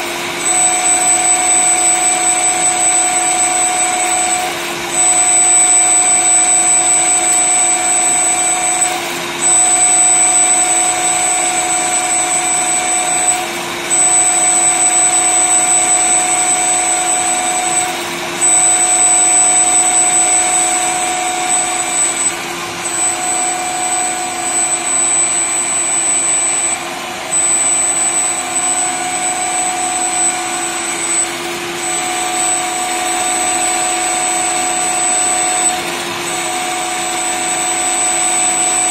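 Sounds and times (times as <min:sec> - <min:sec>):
lathe machining metal: 0:00.0 - 0:38.9.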